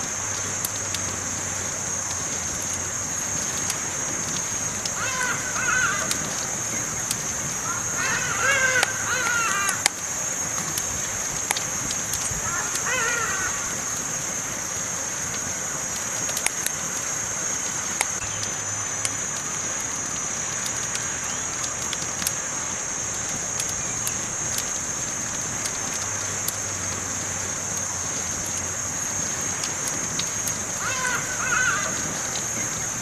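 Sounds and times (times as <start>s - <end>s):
campfire crackling and popping: 0.0s - 33.0s
high-pitched hiss: 0.0s - 33.0s.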